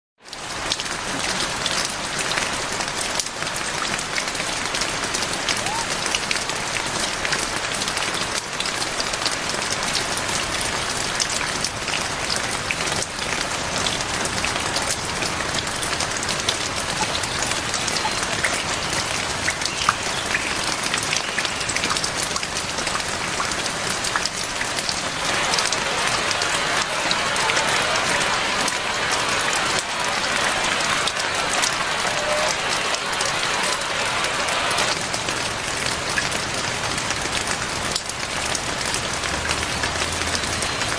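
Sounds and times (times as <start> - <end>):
heavy rain pattering: 0.2 - 40.9.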